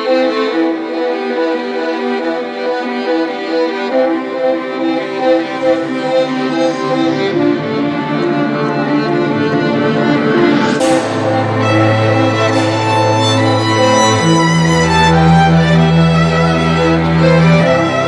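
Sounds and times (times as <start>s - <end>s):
bowed string music with violin: 0.0s - 18.0s.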